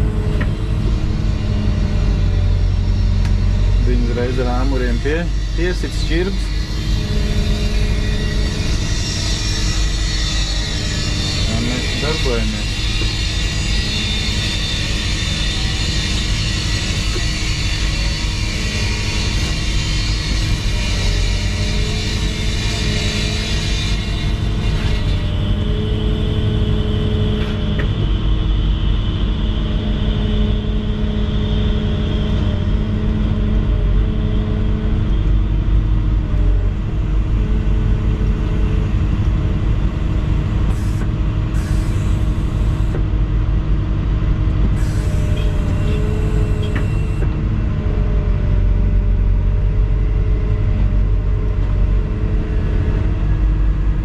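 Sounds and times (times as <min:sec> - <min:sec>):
excavator diesel engine running: 0:00.0 - 0:54.0
hydraulic whine: 0:00.0 - 0:54.0.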